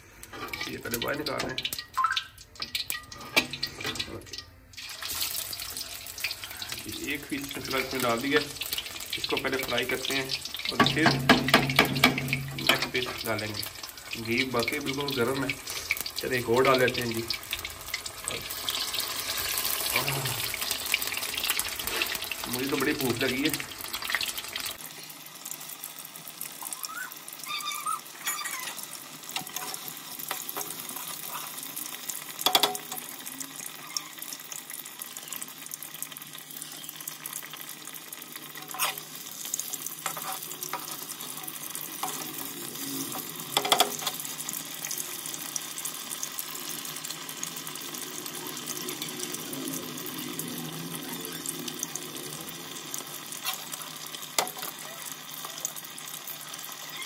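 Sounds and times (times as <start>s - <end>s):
fish deep-frying sizzle: 0.0s - 57.0s.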